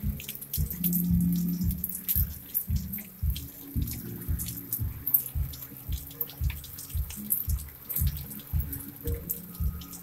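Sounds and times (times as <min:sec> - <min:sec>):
background music with low beat: 0:00.0 - 0:10.0
rain and hail on window: 0:00.0 - 0:10.0.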